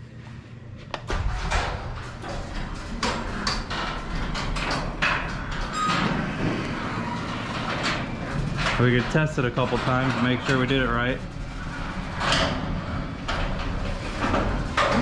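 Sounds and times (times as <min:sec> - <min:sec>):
garage door clicking and rattling: 0:01.0 - 0:15.0
garage door opener motor rumble: 0:01.1 - 0:15.0.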